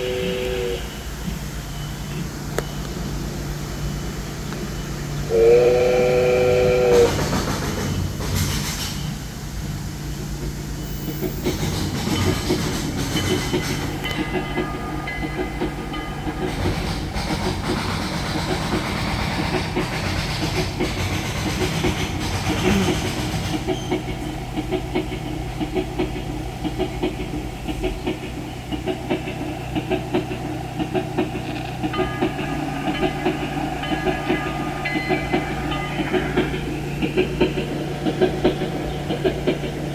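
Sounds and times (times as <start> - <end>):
hissing steam: 0.0 - 39.9
train wheels clickety-clack: 0.0 - 39.9.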